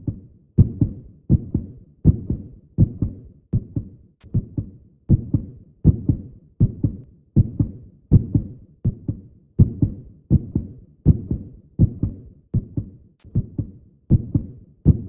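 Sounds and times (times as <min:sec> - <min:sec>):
heartbeat-like low thumps: 0:00.0 - 0:15.0.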